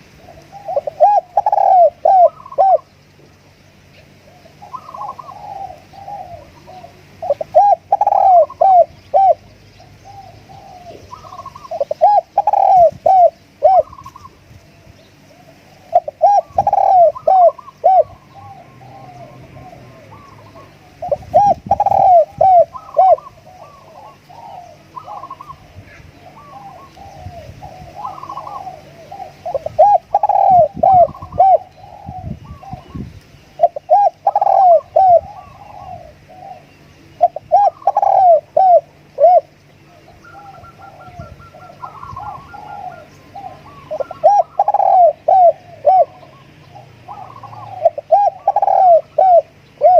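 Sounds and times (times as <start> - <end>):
dove cooing: 0.0 - 3.0, 3.8 - 49.9
small birds chirping: 0.0 - 49.9.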